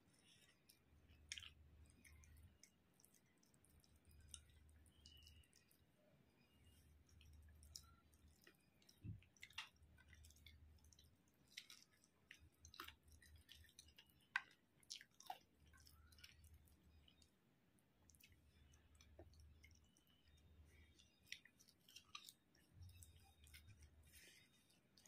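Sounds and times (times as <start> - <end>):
faint chewing: 0.0 - 25.0.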